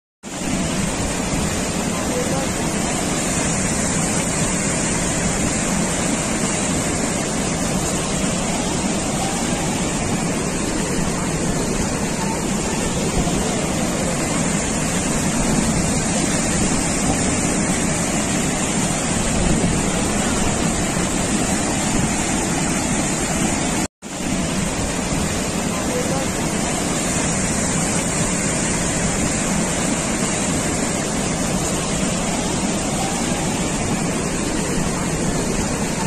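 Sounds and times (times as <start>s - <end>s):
water rushing over weir: 0.2s - 36.0s.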